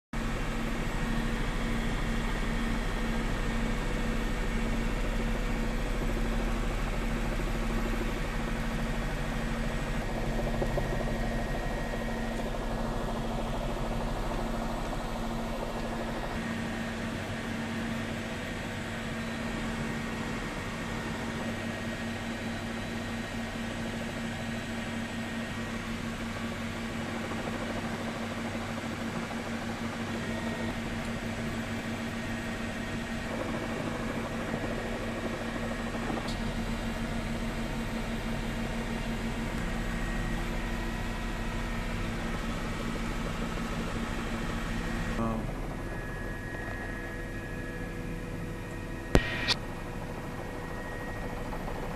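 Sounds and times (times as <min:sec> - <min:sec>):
helicopter engine and rotor drone: 0:00.1 - 0:51.9.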